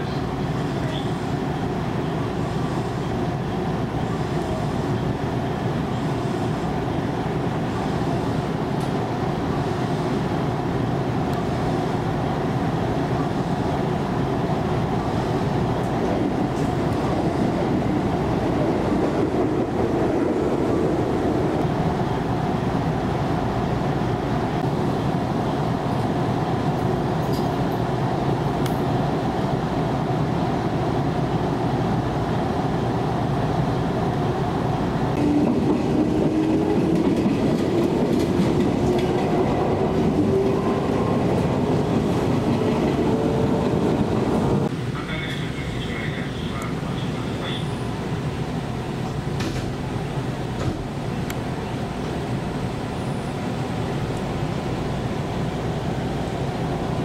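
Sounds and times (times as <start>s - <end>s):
oncoming train passing: 0.0s - 57.0s
train running rumble: 0.0s - 57.0s.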